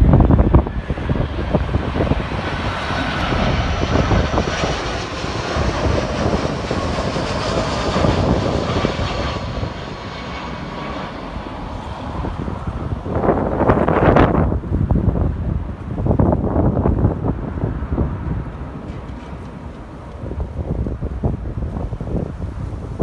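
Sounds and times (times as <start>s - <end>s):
jet engines rushing with high whine: 0.0s - 23.0s.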